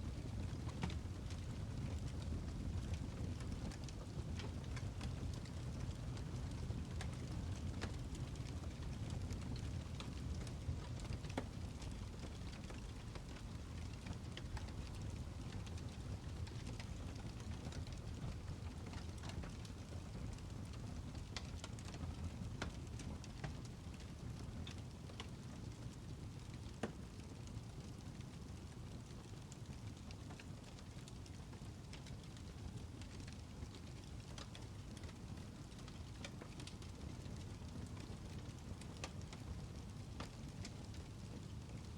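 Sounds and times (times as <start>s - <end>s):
fire crackling and popping: 0.0s - 41.9s
low rumble of flame: 0.0s - 41.9s.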